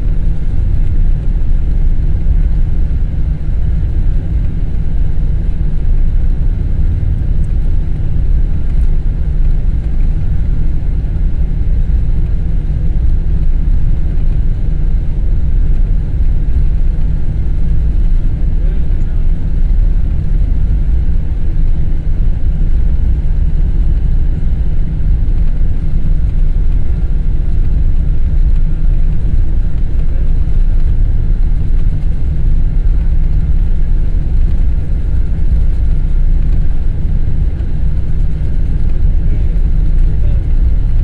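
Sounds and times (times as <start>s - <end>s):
jet engines low rumble: 0.0s - 41.0s.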